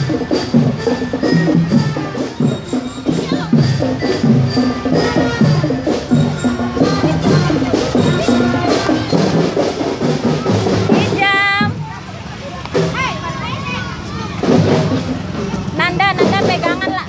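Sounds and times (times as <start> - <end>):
rhythmic percussion music: 0.0 - 17.0.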